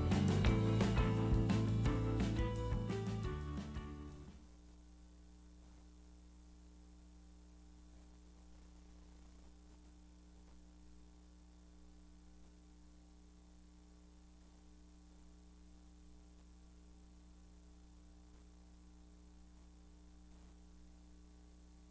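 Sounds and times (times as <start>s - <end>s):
faint electrical hum: 0.0s - 21.9s
low hiss: 0.0s - 21.9s.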